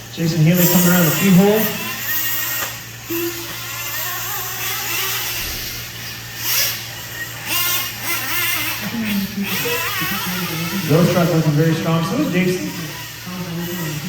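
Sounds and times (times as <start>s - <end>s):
small engines buzzing: 0.0s - 14.0s.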